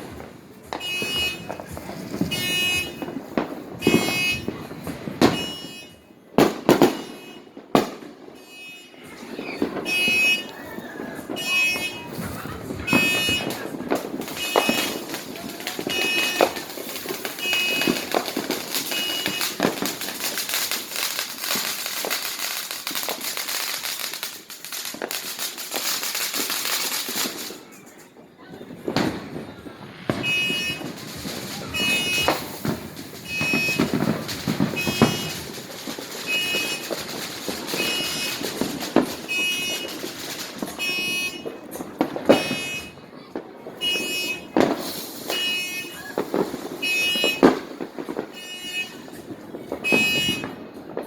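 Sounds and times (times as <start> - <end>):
fireworks bangs: 0.0 - 51.0
fireworks crackling and popping: 0.0 - 51.0.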